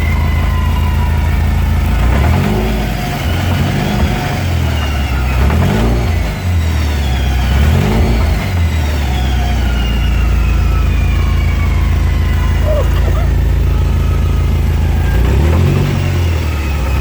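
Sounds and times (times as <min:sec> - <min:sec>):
car engine running: 0:00.0 - 0:17.0
drivetrain rattling: 0:00.0 - 0:17.0.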